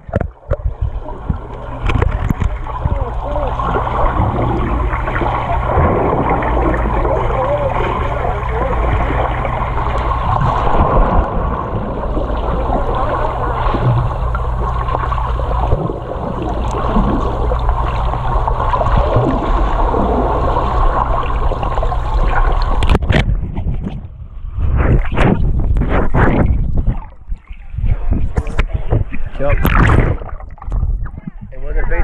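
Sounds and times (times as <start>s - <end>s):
muffled underwater noise: 0.0s - 32.0s.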